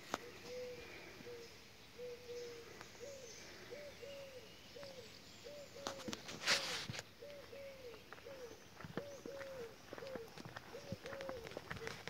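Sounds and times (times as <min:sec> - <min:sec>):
bird cooing: 0:00.0 - 0:12.0.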